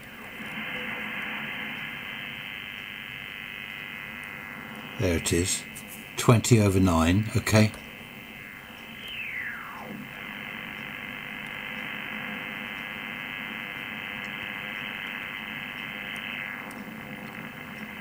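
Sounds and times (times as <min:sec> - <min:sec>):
buzzing radio interference noise: 0:00.0 - 0:18.0.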